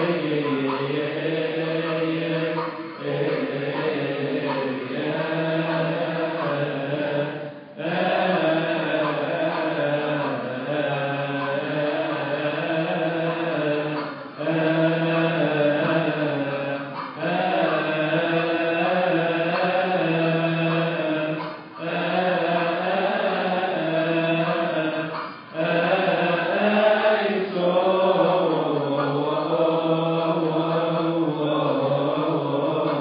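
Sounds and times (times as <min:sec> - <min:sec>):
congregation chanting a hymn: 0:00.0 - 0:33.0.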